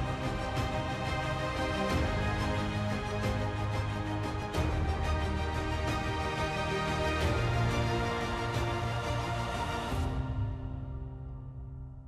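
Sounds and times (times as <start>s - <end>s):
television theme music: 0.0s - 11.3s.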